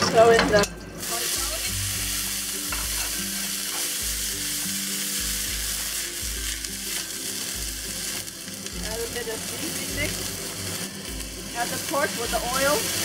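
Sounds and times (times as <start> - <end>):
vegetables sizzling in hot oil: 0.9 - 13.0.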